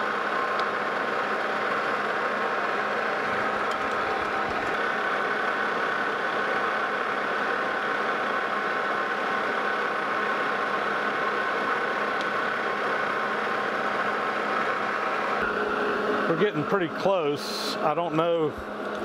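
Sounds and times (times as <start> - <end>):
metal lathe whining: 0.0 - 19.0.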